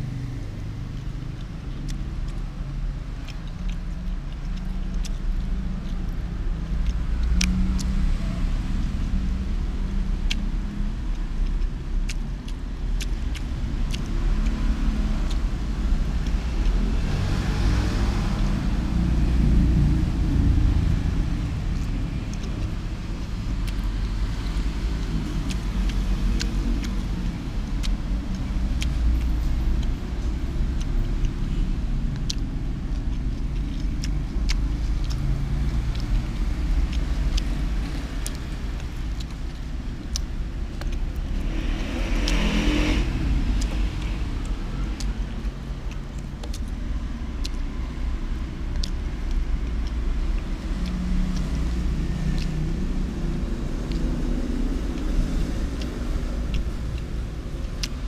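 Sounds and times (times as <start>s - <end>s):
road traffic rumble: 0.0s - 58.0s
vehicle passing: 0.0s - 58.0s.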